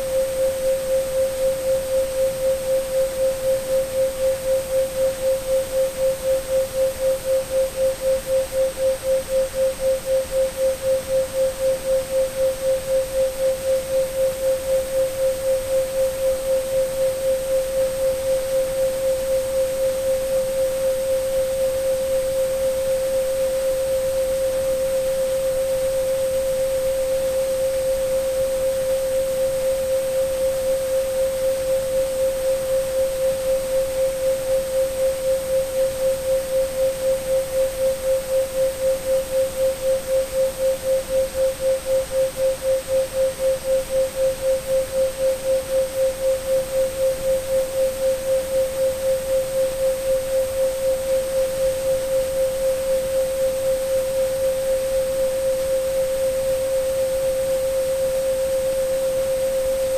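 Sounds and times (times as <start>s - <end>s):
faint high steady tone: 0.0s - 59.9s
pulsing sine tone: 0.0s - 59.9s.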